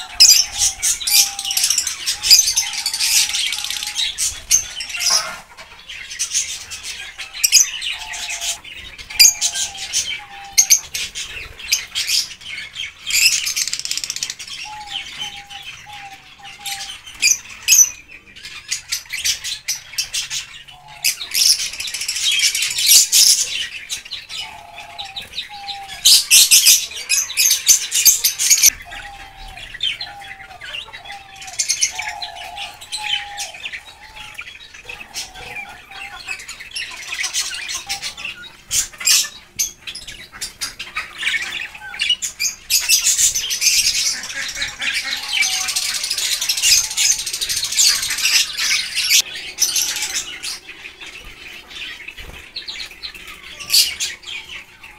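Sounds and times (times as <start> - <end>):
caged birds chirping: 0.0 - 54.9.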